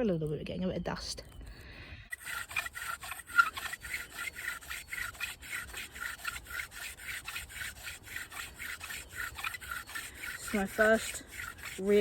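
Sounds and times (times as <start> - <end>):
wooden spindle grinding and squeaking: 2.1 - 12.0.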